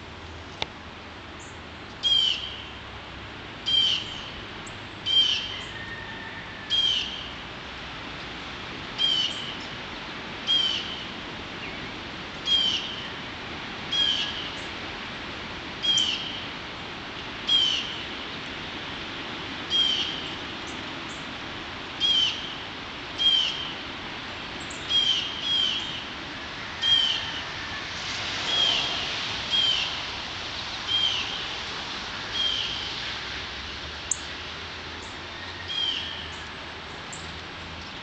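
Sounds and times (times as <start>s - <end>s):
high wind: 0.0s - 38.0s.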